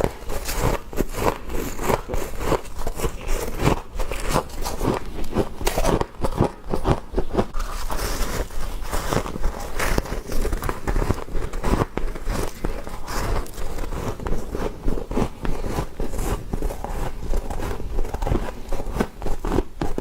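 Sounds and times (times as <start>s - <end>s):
frost being crunched and chewed: 0.0s - 20.0s.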